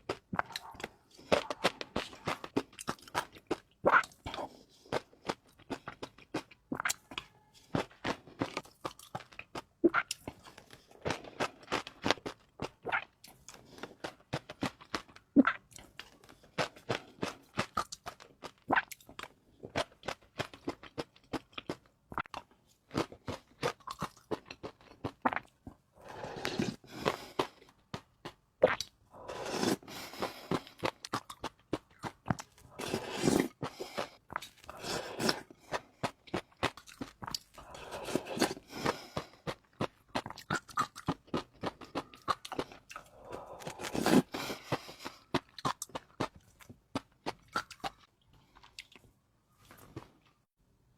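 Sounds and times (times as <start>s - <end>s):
crunchy chewing: 0.0s - 50.4s.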